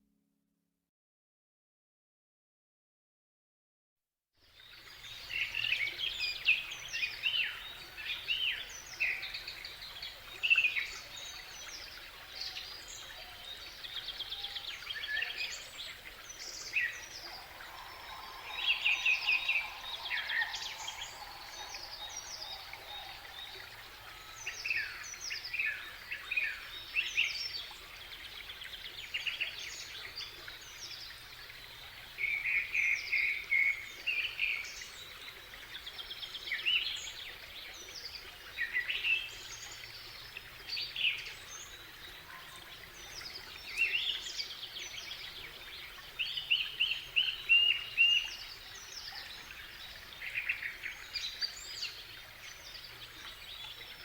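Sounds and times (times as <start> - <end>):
songbirds chirping and trilling: 4.9 - 54.0.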